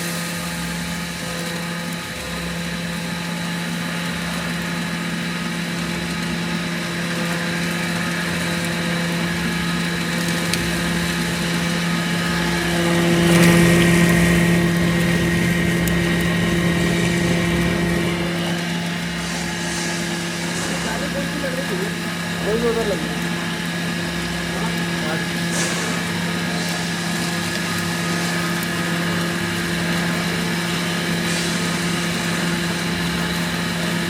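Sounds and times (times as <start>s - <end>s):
electric grinder humming: 4.0s - 34.0s.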